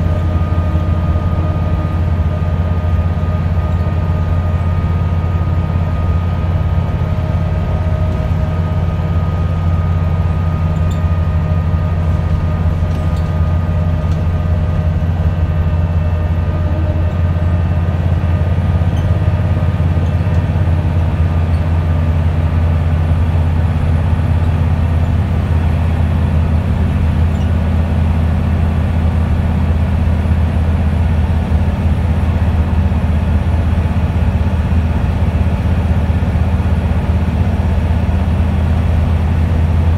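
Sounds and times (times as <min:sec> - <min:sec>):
bus engine pulling under load: 0:00.0 - 0:39.9
road and tyre noise: 0:00.0 - 0:39.9.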